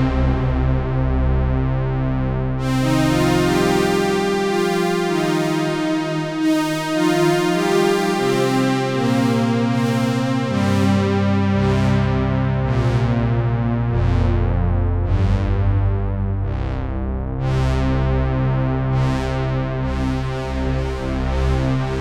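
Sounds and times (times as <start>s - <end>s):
synthesizer chords: 0.0s - 18.4s.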